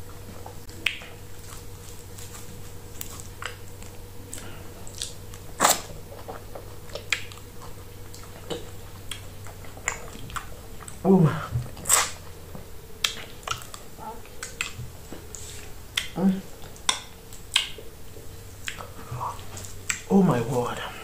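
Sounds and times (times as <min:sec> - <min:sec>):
sticky squishes of dough: 0:00.0 - 0:21.0
mouth smacks and chewing: 0:00.1 - 0:20.1.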